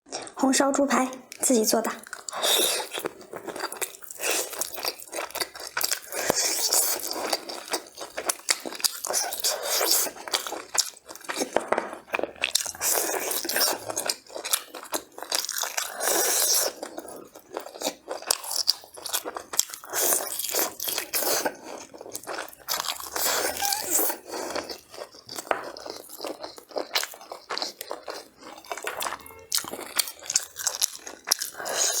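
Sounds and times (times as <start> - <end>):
wet biting and chewing: 0.1 - 0.4, 1.1 - 32.0.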